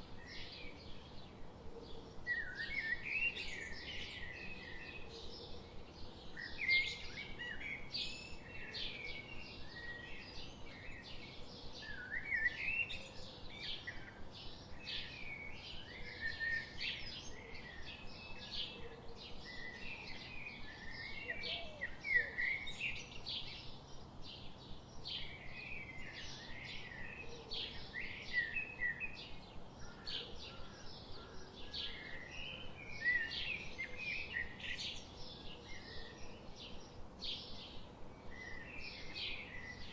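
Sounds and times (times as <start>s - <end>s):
birds chirping and peeping: 0.0s - 39.9s.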